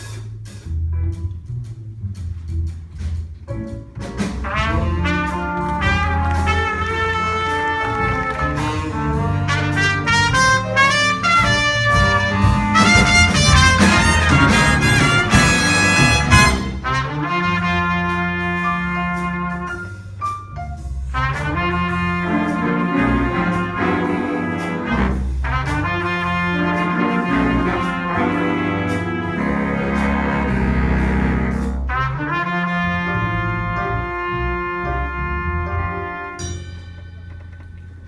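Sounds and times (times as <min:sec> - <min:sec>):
brass band playing: 0:03.7 - 0:37.0.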